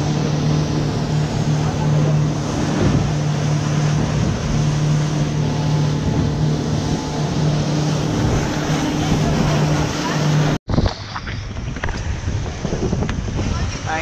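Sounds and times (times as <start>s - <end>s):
motorboat engine droning: 0.0s - 14.0s
water rushing along hull: 0.0s - 14.0s.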